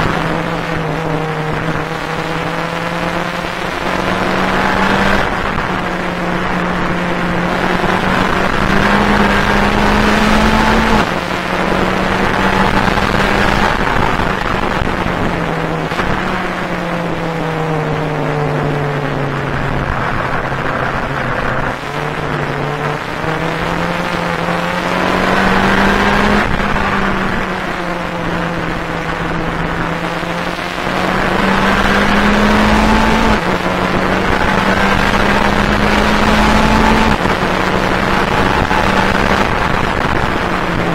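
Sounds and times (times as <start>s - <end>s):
race car engine accelerating: 0.0s - 40.9s.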